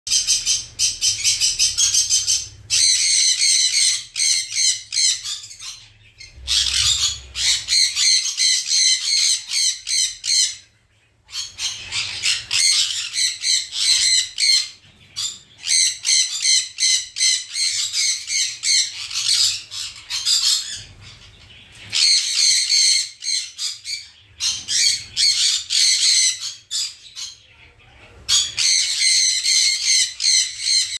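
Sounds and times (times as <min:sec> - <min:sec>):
parrots squawking harshly: 0:00.1 - 0:30.9.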